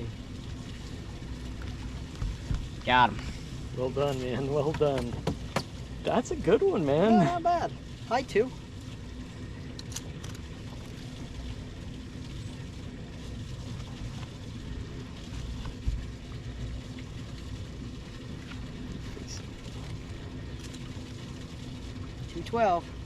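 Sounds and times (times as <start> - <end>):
engine rumbling: 0.0 - 23.0.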